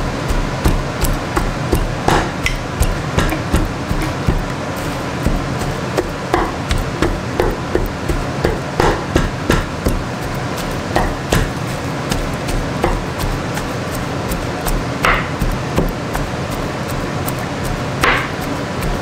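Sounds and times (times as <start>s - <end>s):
knocks of food being mashed: 0.0s - 19.0s.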